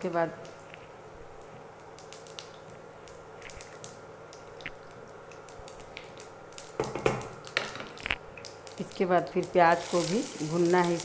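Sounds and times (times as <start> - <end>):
faint oil sizzle: 0.0 - 11.0
seeds popping in hot oil: 0.4 - 11.0.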